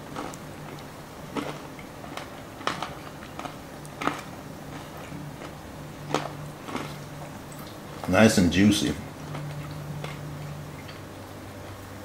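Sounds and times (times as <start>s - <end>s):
sharp chewing sounds: 0.0s - 8.2s, 9.0s - 11.8s
faint low hum: 0.0s - 12.0s.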